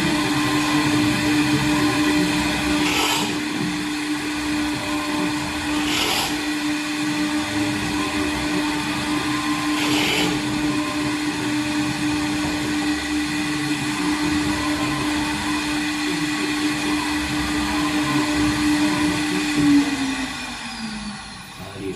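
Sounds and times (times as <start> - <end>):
router bit cutting wood: 0.0 - 21.9
router spindle whine: 0.0 - 21.9.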